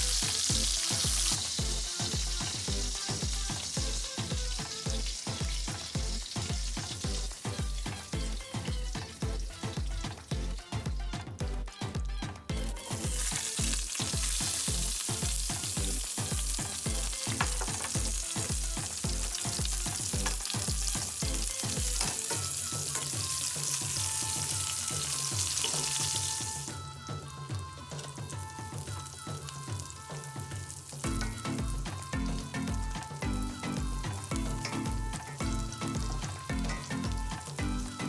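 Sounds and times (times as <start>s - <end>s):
food sizzling in hot pan: 0.0s - 11.4s, 12.5s - 26.8s, 27.9s - 38.0s
background music with bass beat: 0.0s - 38.0s.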